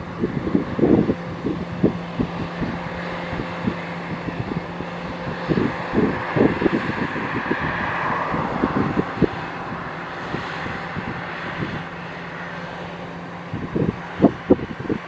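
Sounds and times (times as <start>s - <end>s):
combine harvester engine hum: 0.0s - 15.0s.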